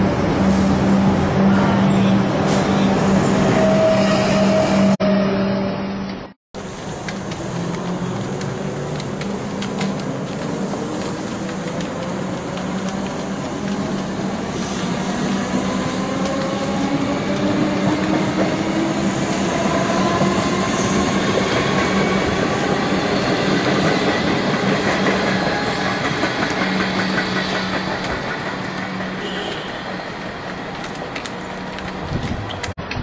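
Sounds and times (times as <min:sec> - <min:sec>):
train wheels rumbling on rail: 0:06.6 - 0:33.0.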